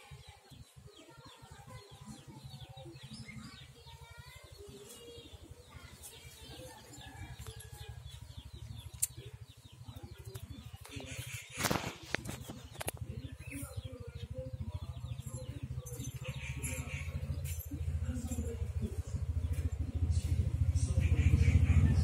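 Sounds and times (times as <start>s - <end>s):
small birds twittering: 0.0s - 22.0s.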